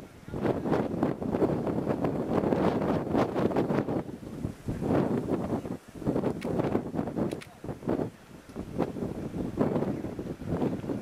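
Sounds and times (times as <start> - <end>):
wind gusting against microphone: 0.0 - 11.0.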